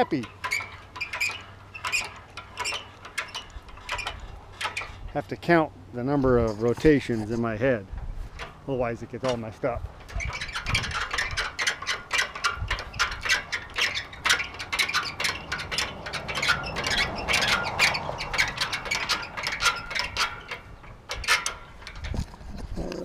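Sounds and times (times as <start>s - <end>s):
tractor and rake parts rattling: 0.0s - 23.0s.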